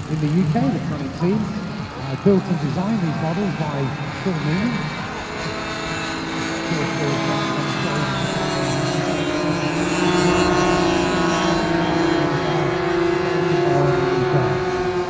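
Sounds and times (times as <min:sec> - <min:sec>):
model airplane engines droning: 0:00.0 - 0:15.0.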